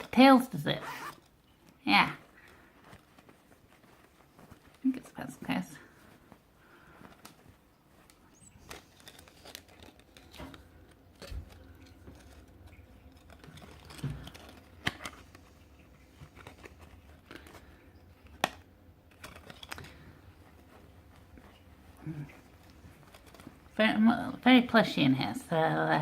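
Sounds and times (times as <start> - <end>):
packaging crinkling and rustling: 0.9 - 23.8.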